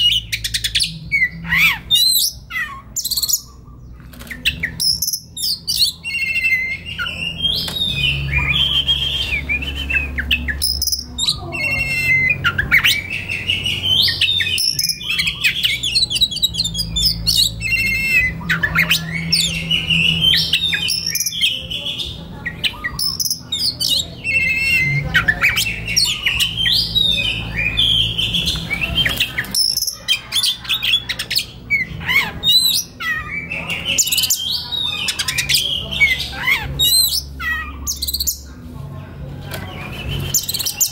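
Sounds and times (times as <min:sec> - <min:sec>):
bird singing whistles and trills: 0:00.0 - 0:38.5, 0:39.6 - 0:40.9.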